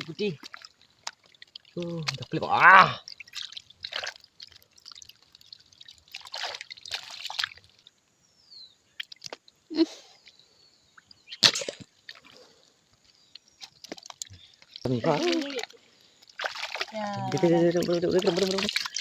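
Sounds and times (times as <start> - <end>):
water sloshing and splashing: 0.0 - 8.1, 8.9 - 9.6, 11.0 - 19.0.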